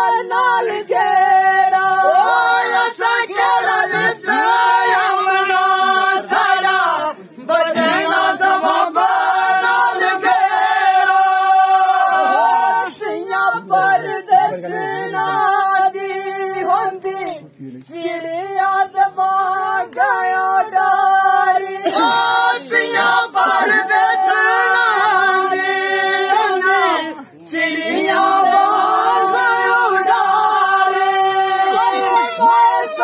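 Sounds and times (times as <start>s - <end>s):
men singing in chorus: 0.0s - 17.2s, 17.9s - 33.0s.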